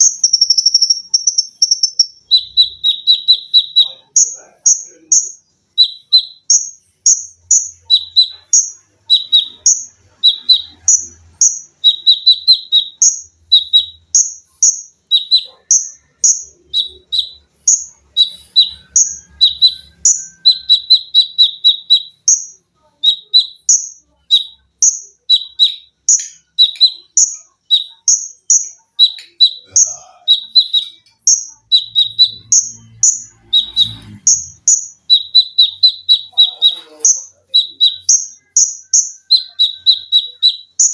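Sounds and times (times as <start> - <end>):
songbird singing high notes: 0.0 - 40.9.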